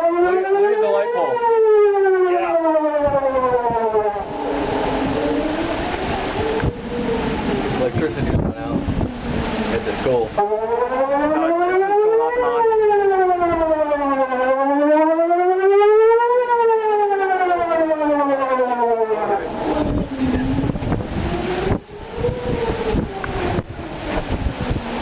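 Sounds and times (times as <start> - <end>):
tornado siren wailing: 0.0 - 25.0
wind noise on microphone: 1.3 - 25.0.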